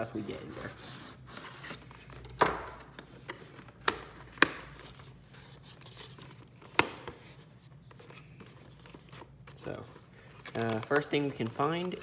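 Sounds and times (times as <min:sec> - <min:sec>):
cardboard rustling: 0:00.0 - 0:12.0.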